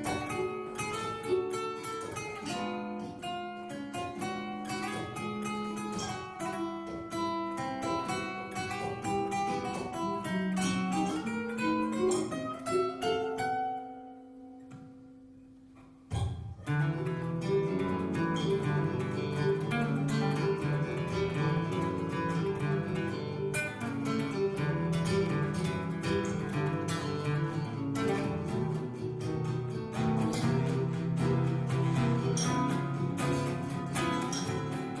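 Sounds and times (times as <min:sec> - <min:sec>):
plucked acoustic guitar: 0:00.0 - 0:35.0.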